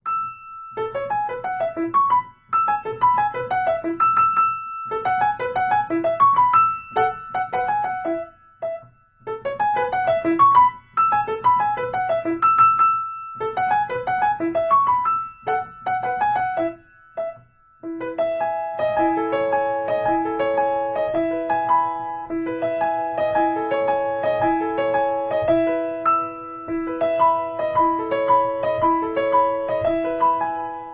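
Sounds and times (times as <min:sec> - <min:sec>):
piano tune: 0:00.0 - 0:30.9.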